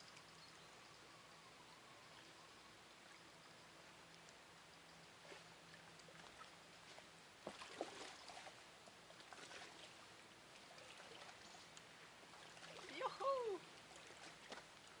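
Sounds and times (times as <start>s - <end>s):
faint water lapping: 0.1s - 15.0s.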